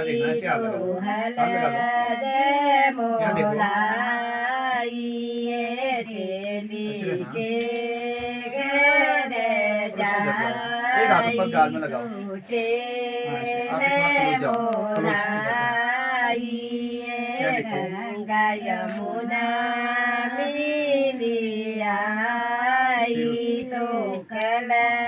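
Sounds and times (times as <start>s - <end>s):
person singing unaccompanied: 0.0s - 25.0s.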